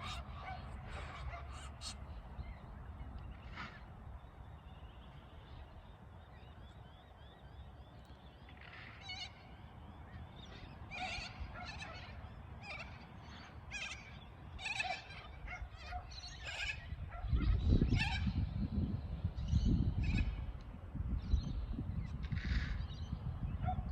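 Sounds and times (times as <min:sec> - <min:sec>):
birds calling: 0:00.0 - 0:23.9.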